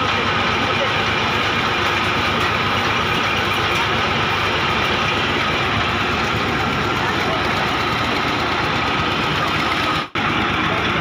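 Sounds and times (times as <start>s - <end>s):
drilling rig engine running: 0.0s - 11.0s.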